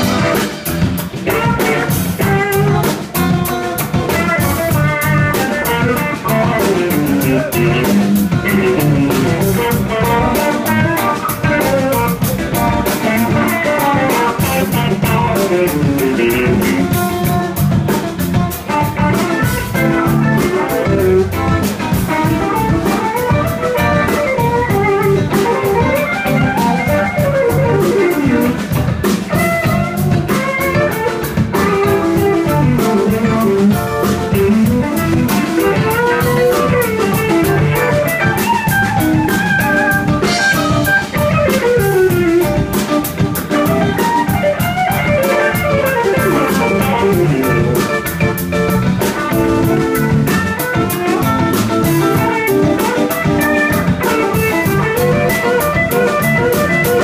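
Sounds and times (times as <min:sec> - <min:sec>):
drum kit beat: 0:00.0 - 0:57.0
electric bass: 0:00.0 - 0:57.0
electric guitar lead: 0:00.0 - 0:57.0.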